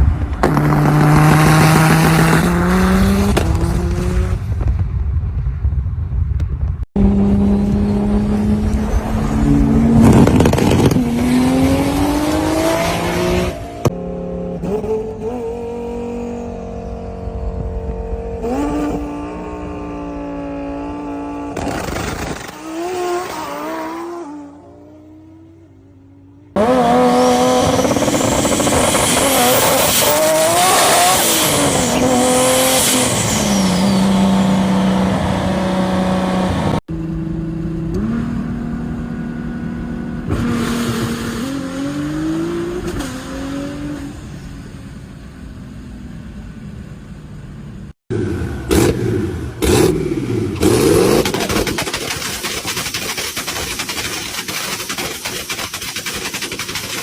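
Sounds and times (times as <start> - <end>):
race car engines revving: 0.0 - 4.6, 7.0 - 45.0, 48.1 - 57.0.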